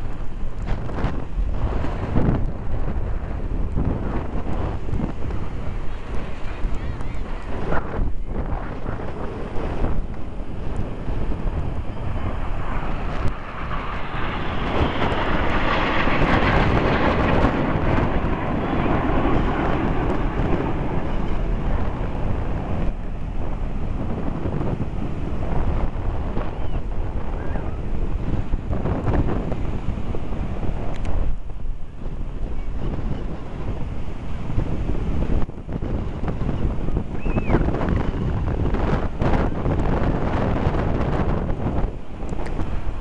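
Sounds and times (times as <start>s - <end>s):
jets flying overhead: 0.0s - 43.0s
wind buffeting microphone: 0.0s - 43.0s.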